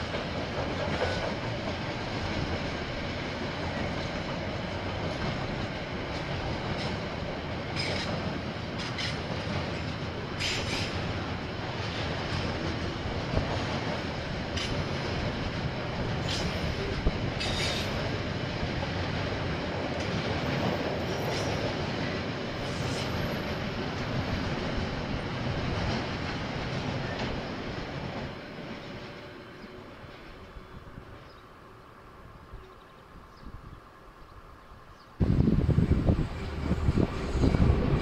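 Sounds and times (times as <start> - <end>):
train wagons rumbling on rails: 0.0 - 33.7, 35.2 - 38.0.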